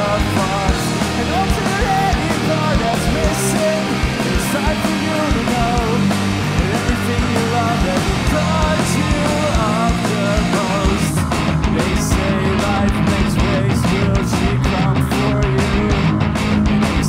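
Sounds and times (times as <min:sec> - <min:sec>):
bass guitar: 0:00.0 - 0:17.0
distorted electric guitar: 0:00.0 - 0:17.0
drum beat: 0:00.0 - 0:17.0.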